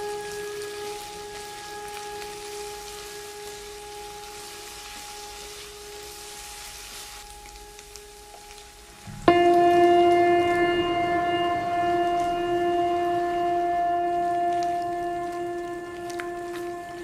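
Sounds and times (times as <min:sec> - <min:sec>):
faint held music notes: 0:00.0 - 0:17.0
vegetables sizzling in oil: 0:00.0 - 0:17.0.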